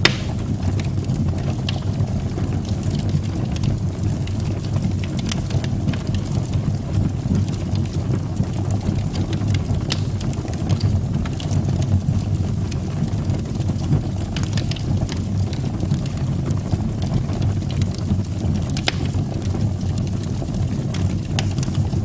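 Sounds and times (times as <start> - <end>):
burning wood crackling and popping: 0.0 - 22.0
fire rumbling: 0.0 - 22.0.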